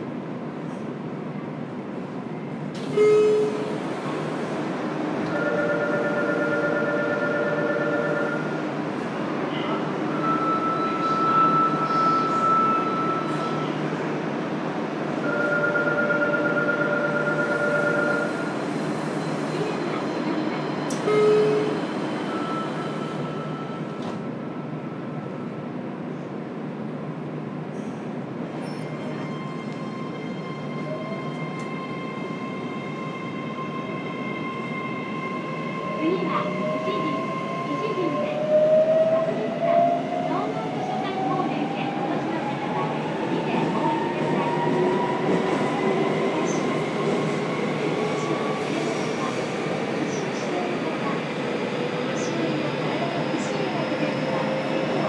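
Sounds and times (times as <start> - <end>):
train running noise in cabin: 0.0 - 55.0.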